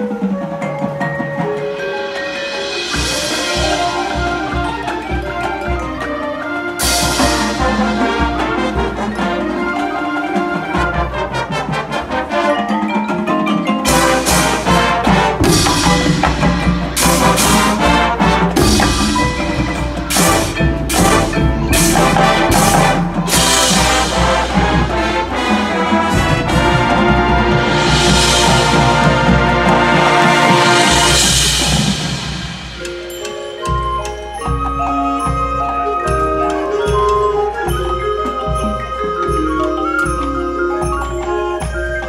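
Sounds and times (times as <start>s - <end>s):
marching band playing: 0.0s - 42.0s
sharp percussion accents: 0.0s - 42.0s.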